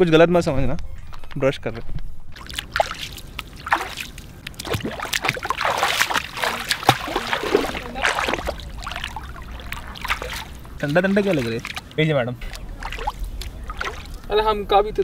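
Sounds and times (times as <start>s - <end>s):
feet splashing in shallow water: 2.3s - 14.5s.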